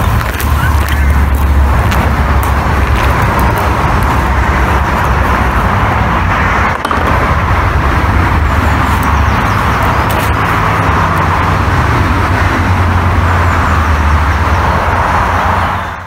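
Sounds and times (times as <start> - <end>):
loud outdoor rushing roar: 0.0 - 16.0.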